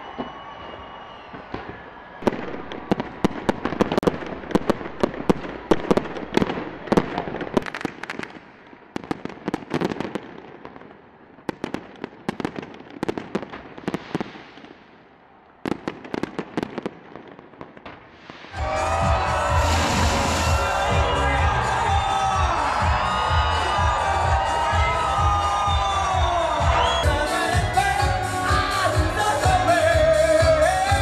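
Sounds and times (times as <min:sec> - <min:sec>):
firework bangs and cracks: 0:00.0 - 0:27.0
firework crackle: 0:00.0 - 0:27.0.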